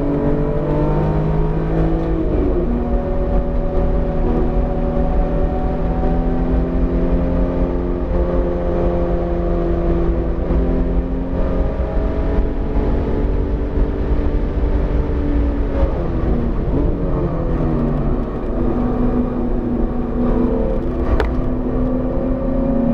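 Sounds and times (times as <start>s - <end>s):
car engine revving: 0.0s - 22.9s
road and wind noise: 0.0s - 22.9s.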